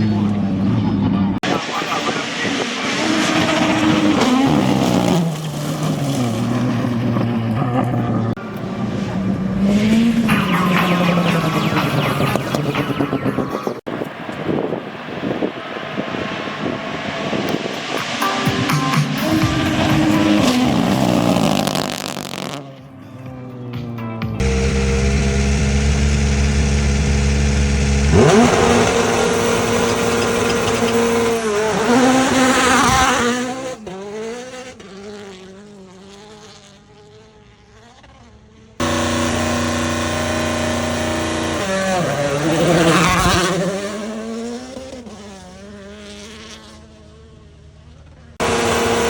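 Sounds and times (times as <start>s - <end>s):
rally car engines passing: 0.0s - 49.0s.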